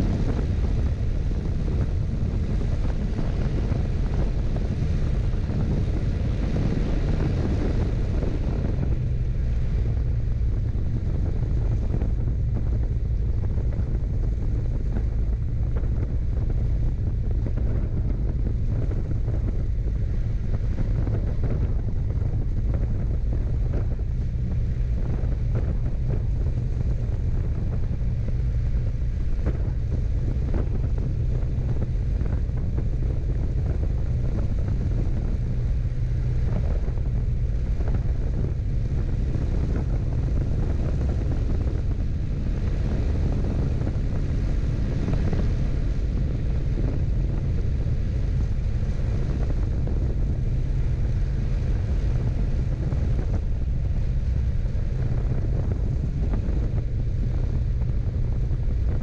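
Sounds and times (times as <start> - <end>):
propeller plane engine droning: 0.0 - 59.0
wind noise on microphone: 0.0 - 59.0.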